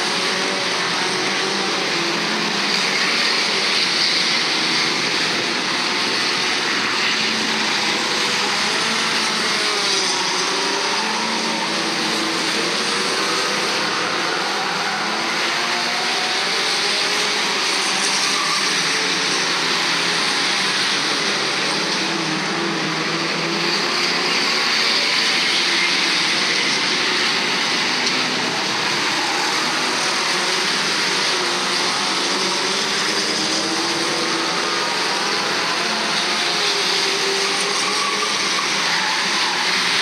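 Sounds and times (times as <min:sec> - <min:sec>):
racing car engines: 0:00.0 - 0:40.0.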